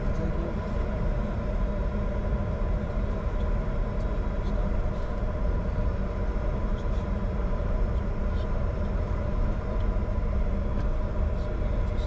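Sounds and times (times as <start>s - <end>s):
jet cockpit rumble: 0.0s - 12.0s.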